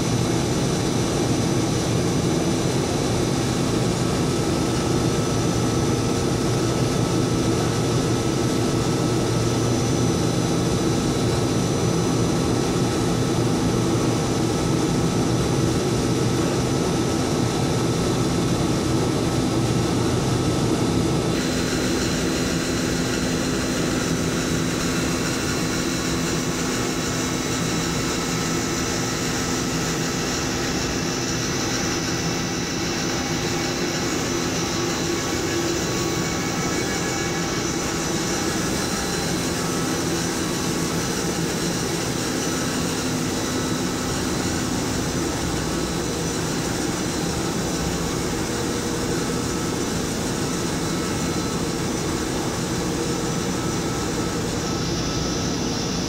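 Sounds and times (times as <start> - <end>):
factory machinery drone: 0.0 - 56.0.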